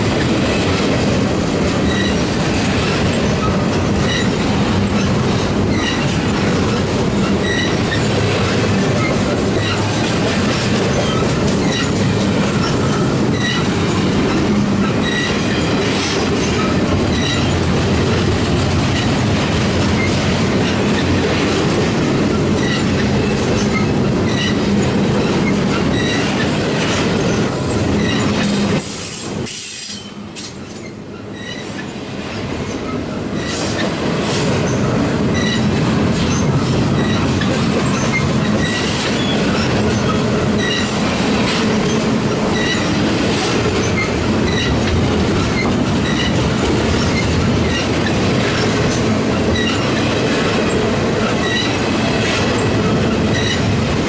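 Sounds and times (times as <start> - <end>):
steel wheels rumbling on rail: 0.0 - 54.0
high wheel squeaks: 1.8 - 2.3, 3.1 - 10.1, 10.7 - 17.7, 22.3 - 32.0, 32.6 - 53.8.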